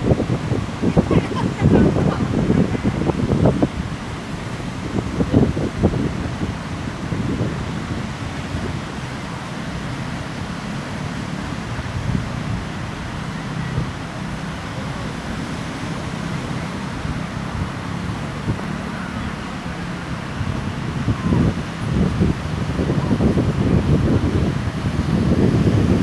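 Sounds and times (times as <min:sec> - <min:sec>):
waves washing onto beach: 0:00.0 - 0:26.0
wind buffeting microphone: 0:00.0 - 0:26.0.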